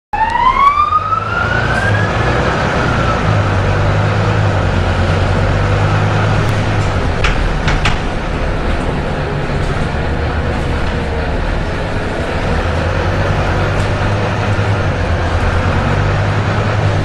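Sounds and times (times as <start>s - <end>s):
bus engine low drone: 0.2s - 17.0s.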